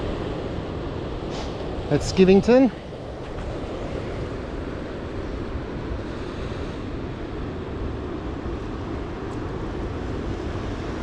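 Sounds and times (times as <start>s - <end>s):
surf on rocky shore: 0.0s - 11.0s.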